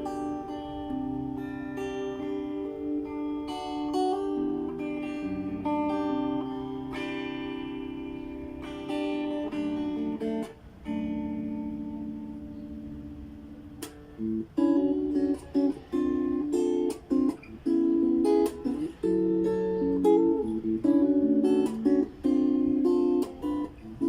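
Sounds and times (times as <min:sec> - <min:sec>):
electric guitar chords and notes: 0:00.0 - 0:24.0.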